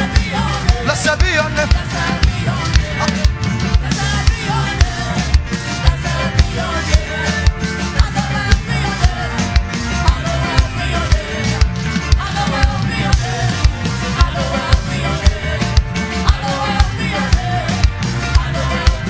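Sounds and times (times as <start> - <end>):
drum kit beat: 0.0 - 19.0
live worship band music: 0.0 - 19.0.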